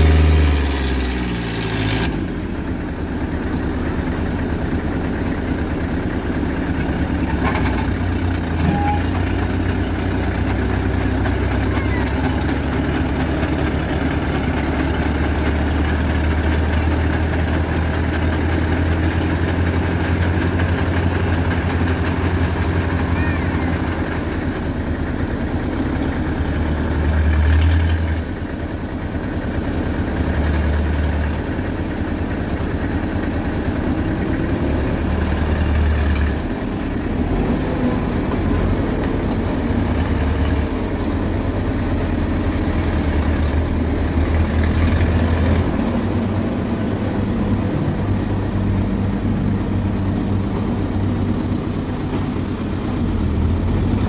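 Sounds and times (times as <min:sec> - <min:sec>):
dump truck engine running: 0:00.0 - 0:54.0.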